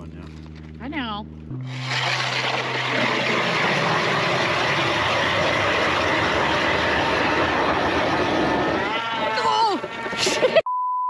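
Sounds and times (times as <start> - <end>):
electric ice auger drilling: 1.7 - 10.6.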